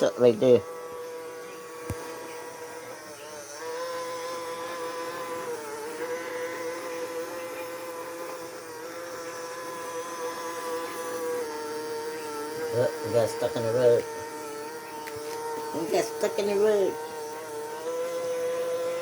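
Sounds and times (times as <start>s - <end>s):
robot vacuum motor hum: 0.0s - 19.0s.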